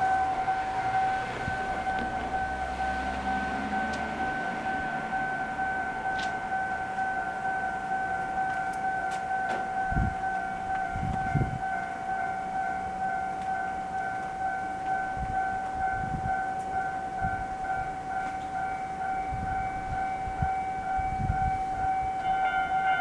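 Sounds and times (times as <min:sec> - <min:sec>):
level crossing warning alarm: 0:00.0 - 0:23.0.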